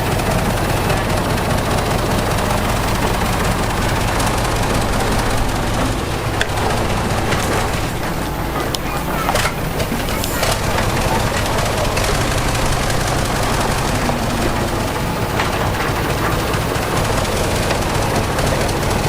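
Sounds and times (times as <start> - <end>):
diesel earthmoving machinery running: 0.0 - 19.0.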